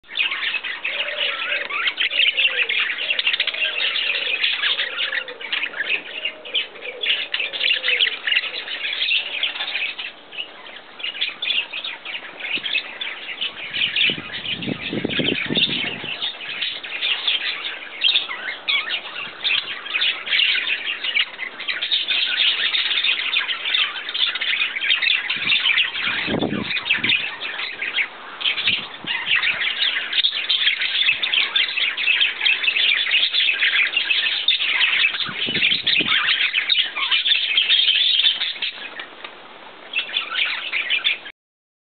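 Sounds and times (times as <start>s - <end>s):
budgerigars chattering: 0.0s - 39.1s, 39.9s - 41.3s.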